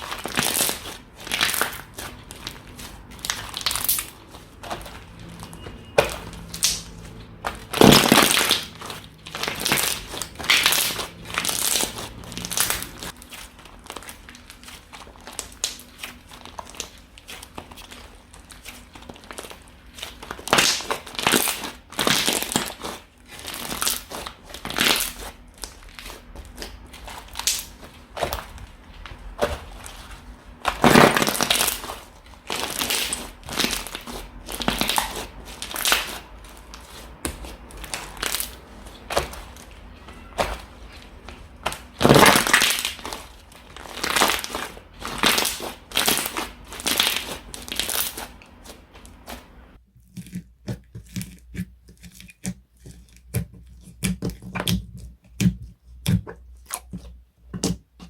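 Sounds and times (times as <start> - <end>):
slime squished by hand: 0.0 - 58.0.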